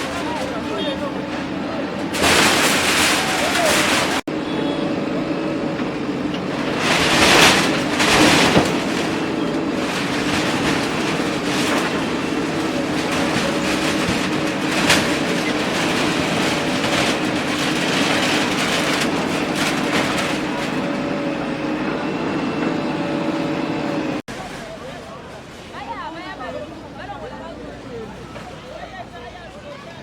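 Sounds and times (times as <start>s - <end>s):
heavy machinery engine running: 0.0s - 24.5s
loud noisy surges: 0.0s - 24.6s.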